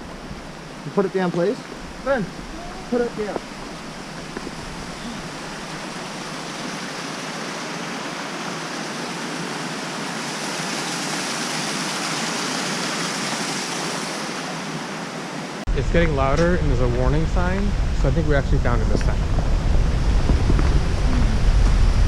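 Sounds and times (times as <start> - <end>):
water cascading: 0.0 - 22.0.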